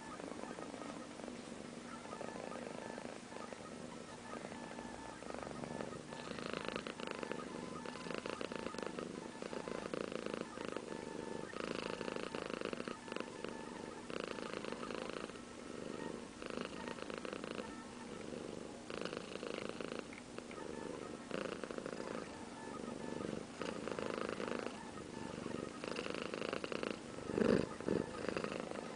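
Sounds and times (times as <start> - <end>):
cat purring: 0.0 - 28.9.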